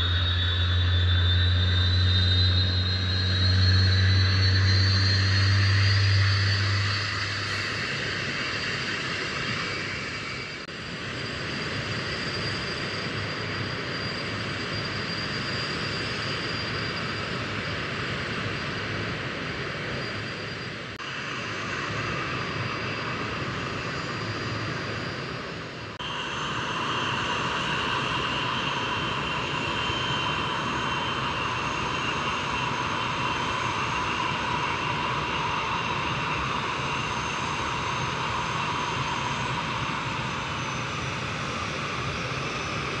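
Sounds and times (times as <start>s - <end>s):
jet engines roaring with whine: 0.0s - 43.0s.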